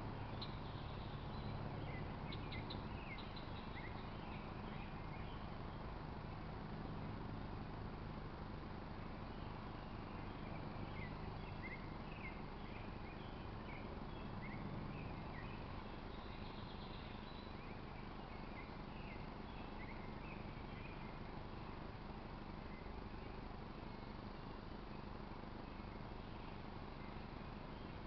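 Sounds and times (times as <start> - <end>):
outdoor background hiss: 0.0 - 28.0
small birds chirping: 0.0 - 28.0.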